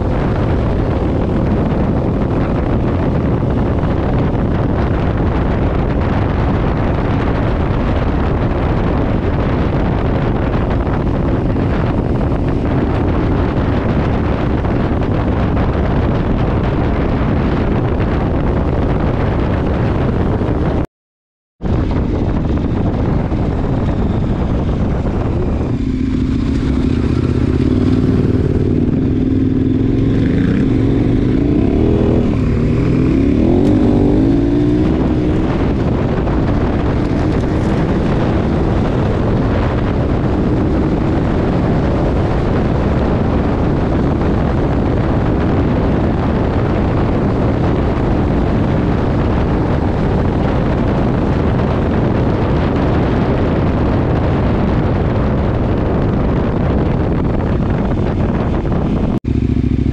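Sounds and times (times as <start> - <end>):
motorcycle engine running: 0.0 - 20.8, 21.7 - 59.9
wind noise: 0.0 - 20.9, 21.6 - 59.9.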